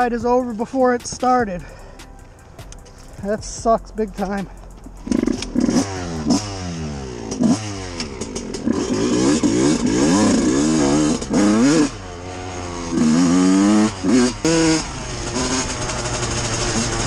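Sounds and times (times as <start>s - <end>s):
dirt bike two-stroke engine revving: 3.2s - 17.0s.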